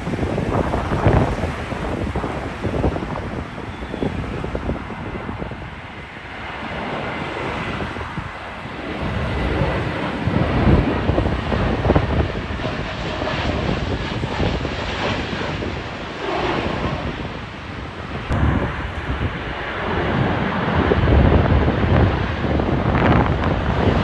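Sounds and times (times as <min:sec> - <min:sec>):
jet engines rushing: 0:00.0 - 0:24.0
wind gusting over microphone: 0:00.0 - 0:24.0.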